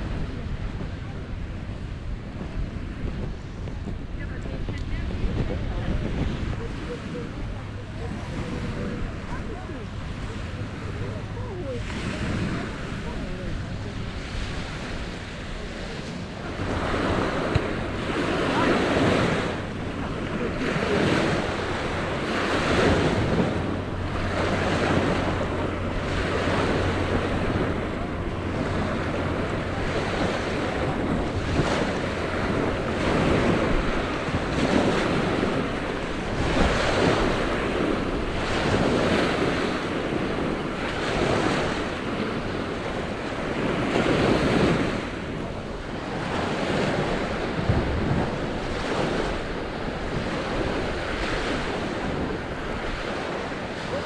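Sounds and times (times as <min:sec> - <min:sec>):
small waves washing onto sand: 0:00.0 - 0:54.0
wind buffeting the microphone: 0:00.0 - 0:54.0.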